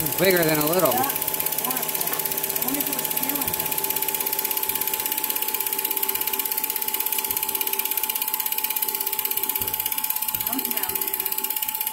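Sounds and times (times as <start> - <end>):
film projector clattering: 0.0 - 11.9
projector motor hum: 0.0 - 11.9.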